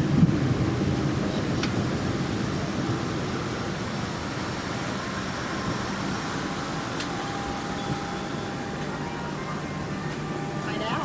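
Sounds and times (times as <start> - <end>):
air conditioning hum: 0.0 - 11.0
vehicle interior rumble: 0.0 - 11.0.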